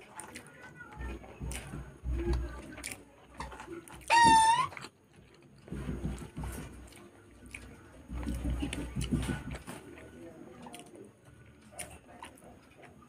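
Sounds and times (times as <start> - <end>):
eating food by hand: 0.0 - 13.0.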